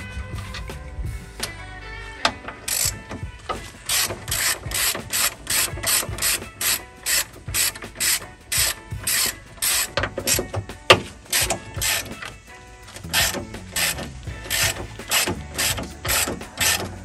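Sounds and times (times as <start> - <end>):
socket ratchet clicking: 2.7 - 17.0.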